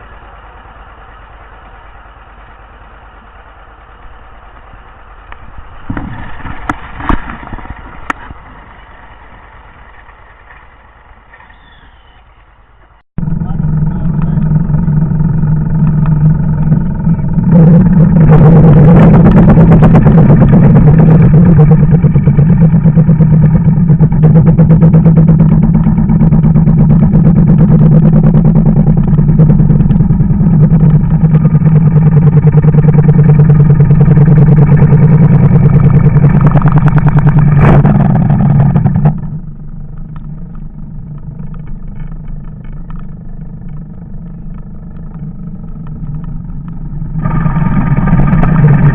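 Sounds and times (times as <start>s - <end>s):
farm machine engine running: 0.0s - 48.9s.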